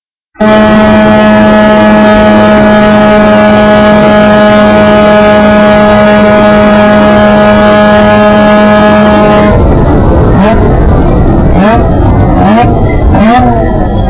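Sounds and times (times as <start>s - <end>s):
wind and road noise: 0.3s - 14.0s
race car engine running hard: 0.4s - 14.0s.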